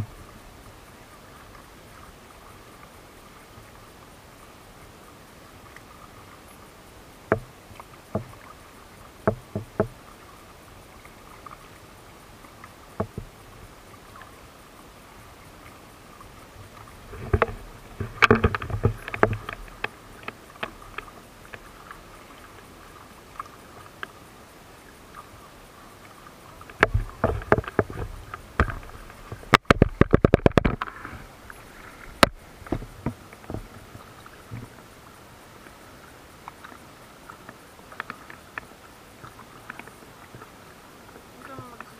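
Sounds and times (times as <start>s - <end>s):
kayak paddles splashing in water: 0.0s - 41.9s.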